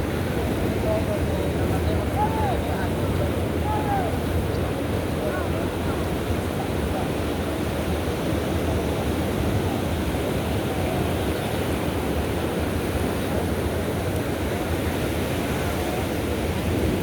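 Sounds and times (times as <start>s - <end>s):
waves on a sandy beach: 0.0s - 17.0s.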